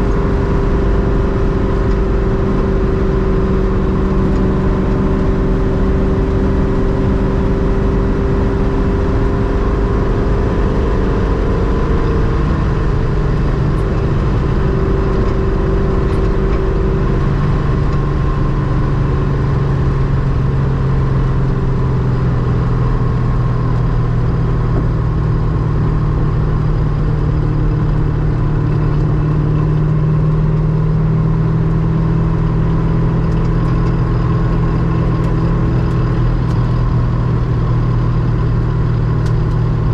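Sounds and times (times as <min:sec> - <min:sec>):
car engine running on road: 0:00.0 - 0:39.9.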